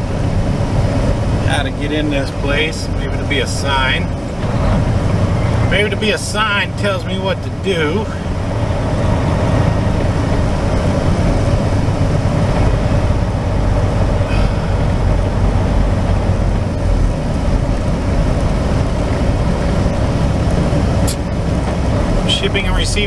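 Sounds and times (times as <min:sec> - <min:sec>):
truck engine and tyres on snow: 0:00.0 - 0:23.0.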